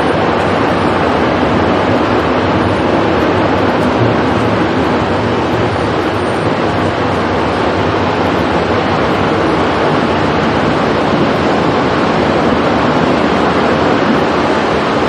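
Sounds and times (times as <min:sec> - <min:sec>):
loud steady rushing noise: 0:00.0 - 0:15.0.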